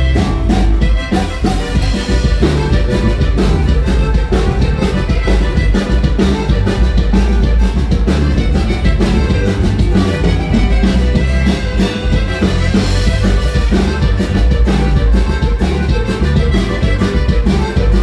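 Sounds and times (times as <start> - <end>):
bass: 0.0 - 18.0
drums: 0.0 - 18.0
saxophone: 0.0 - 18.0.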